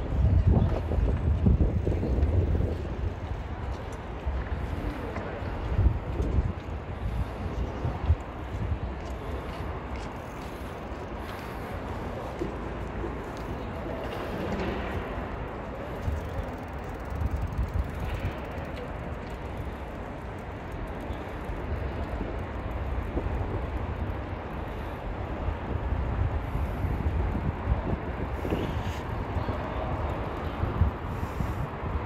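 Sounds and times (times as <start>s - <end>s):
outdoor city hum: 0.0s - 32.0s
wind buffeting microphone: 0.0s - 32.0s.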